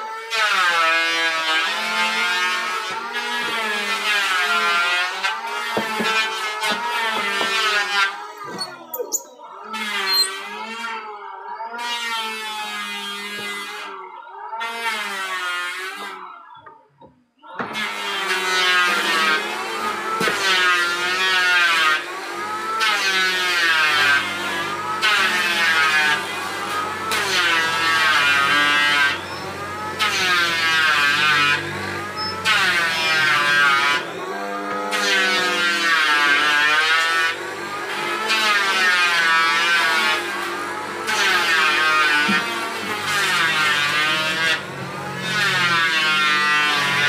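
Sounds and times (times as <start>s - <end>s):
mortising machine drilling wood: 0.7s - 10.7s, 17.8s - 47.0s.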